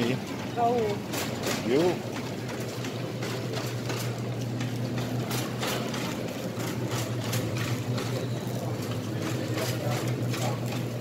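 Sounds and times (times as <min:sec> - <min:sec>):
shopping cart rattling: 0:00.0 - 0:11.0.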